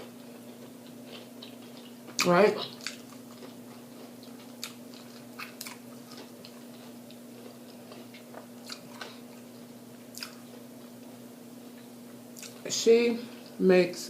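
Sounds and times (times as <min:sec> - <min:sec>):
person chewing food: 0:00.0 - 0:12.6
faint steady hum: 0:00.0 - 0:14.0.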